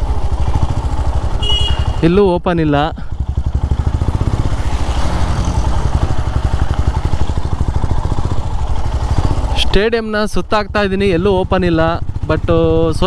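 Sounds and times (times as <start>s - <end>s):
motorcycle engine puttering: 0.0s - 2.2s, 3.0s - 13.0s.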